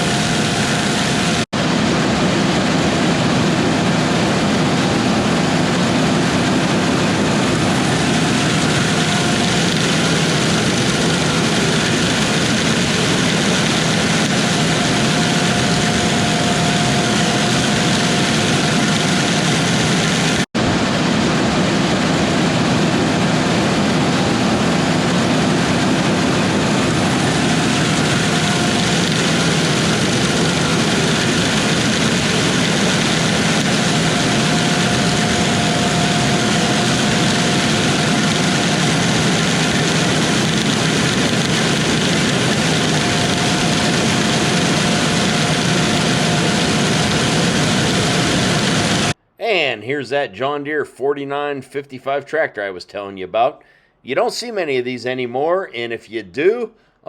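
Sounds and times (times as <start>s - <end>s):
diesel farm machinery drone: 0.0s - 49.2s.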